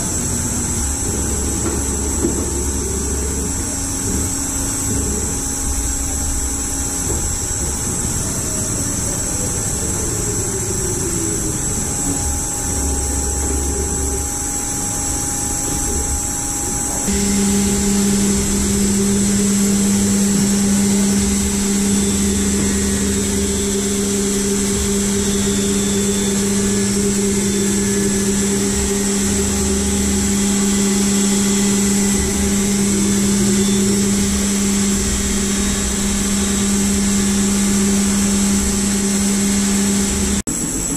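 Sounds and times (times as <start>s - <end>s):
whines of moving machine axes: 0.0s - 40.4s
machine hum: 0.0s - 40.9s.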